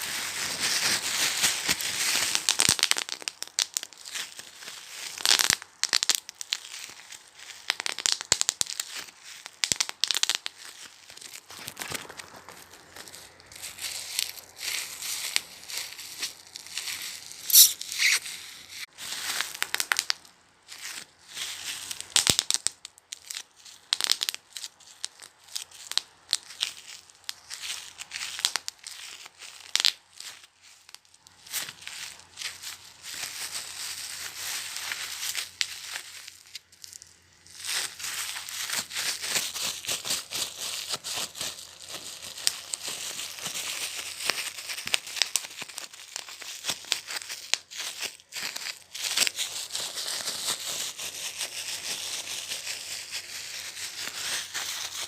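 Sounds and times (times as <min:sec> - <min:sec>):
bubble wrap crinkling: 0:00.0 - 0:55.0.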